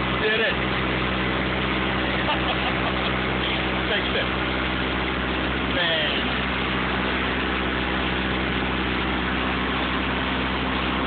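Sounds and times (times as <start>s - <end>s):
engine-driven water pump running: 0.0s - 11.0s.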